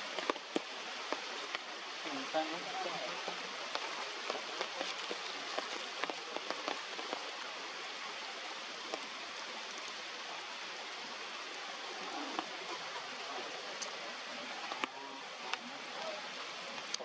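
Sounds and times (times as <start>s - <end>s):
heavy rain falling: 0.0s - 17.0s
raindrops ticking close by: 0.0s - 17.0s.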